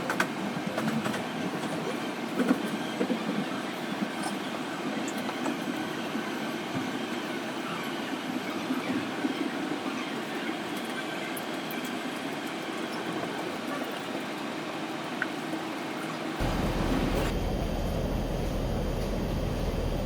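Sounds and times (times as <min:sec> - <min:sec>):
train rumbling inside carriage: 0:00.0 - 0:20.0.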